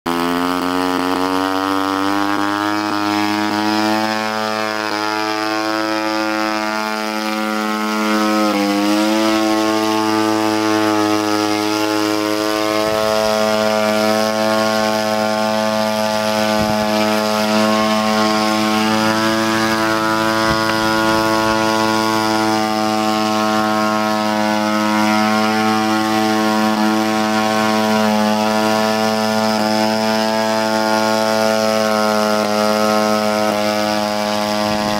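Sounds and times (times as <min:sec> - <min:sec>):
small rotorcraft engine running: 0:00.1 - 0:34.9.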